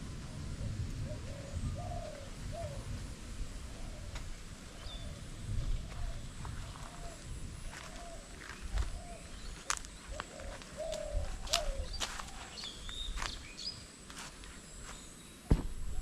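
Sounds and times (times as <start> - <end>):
wind rumble: 0.0 - 13.6, 15.5 - 16.0
birds calling: 0.7 - 16.0.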